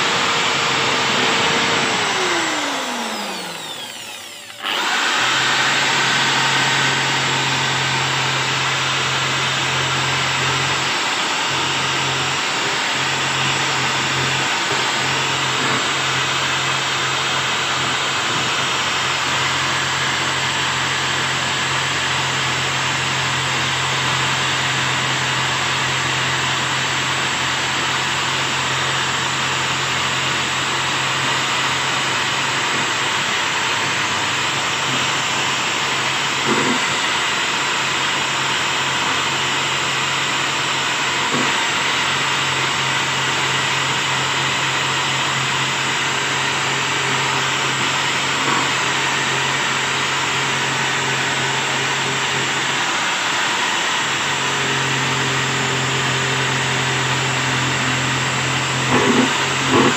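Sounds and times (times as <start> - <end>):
drill brush scouring sheet metal: 0.0 - 59.9.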